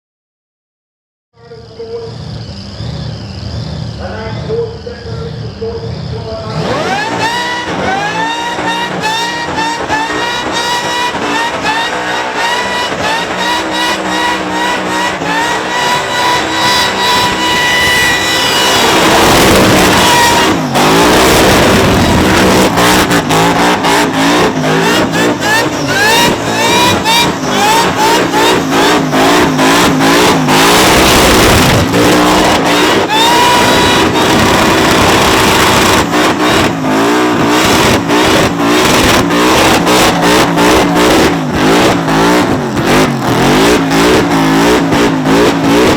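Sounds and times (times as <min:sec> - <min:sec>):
supercharger whine: 0:01.4 - 0:45.9
supercharged engine revving: 0:01.5 - 0:45.9.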